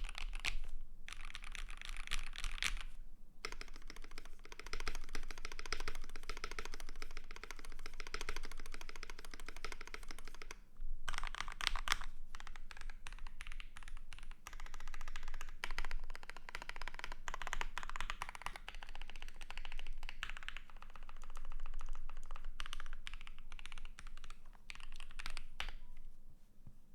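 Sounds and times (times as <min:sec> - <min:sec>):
fast mechanical keyboard typing: 0:00.0 - 0:02.8, 0:03.4 - 0:25.8.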